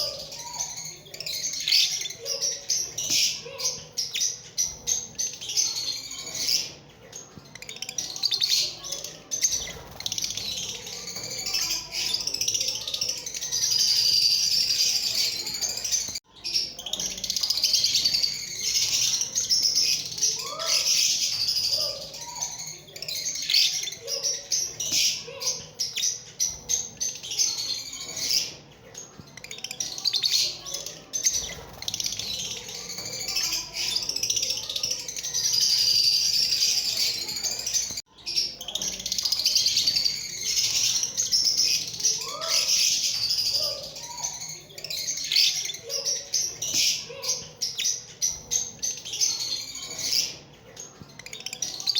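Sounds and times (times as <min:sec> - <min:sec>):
birds chirping and chattering: 0:00.0 - 0:51.9.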